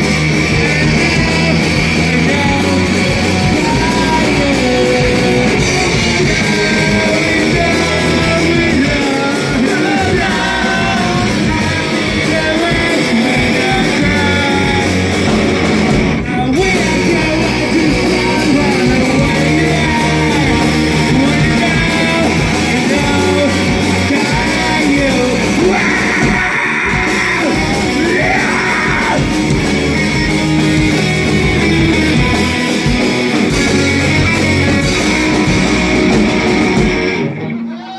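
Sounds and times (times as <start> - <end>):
rock song with guitar and singing: 0.0 - 37.9.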